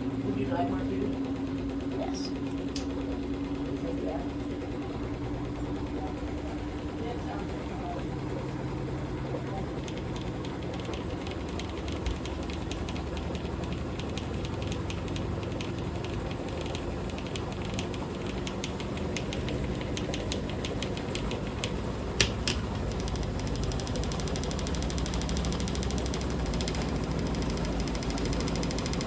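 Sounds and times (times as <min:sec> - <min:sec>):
washing machine spinning: 0:00.0 - 0:29.0
rapid clicking and rattling: 0:00.2 - 0:29.0.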